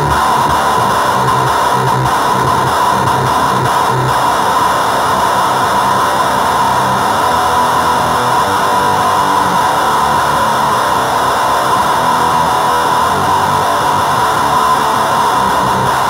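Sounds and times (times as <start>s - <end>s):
heavily distorted electric guitar: 0.0s - 16.0s.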